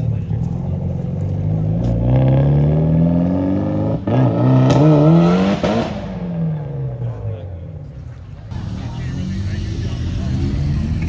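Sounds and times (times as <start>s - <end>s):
car engine accelerating hard: 0.0s - 7.4s, 8.1s - 11.0s.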